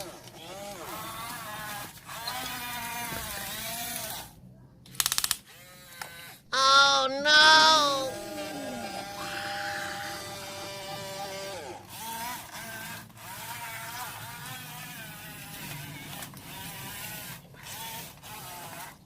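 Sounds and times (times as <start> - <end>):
small electric motor whining: 0.0 - 4.4, 7.8 - 19.0.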